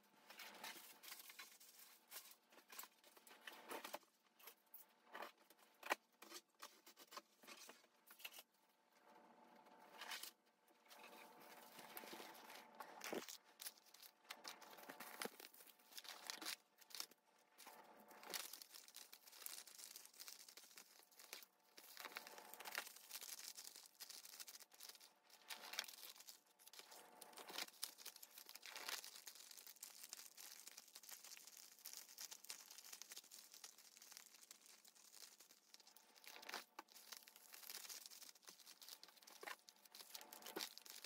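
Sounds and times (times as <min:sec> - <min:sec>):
plastic packaging crinkling: 0:00.3 - 0:04.1, 0:11.0 - 0:41.0.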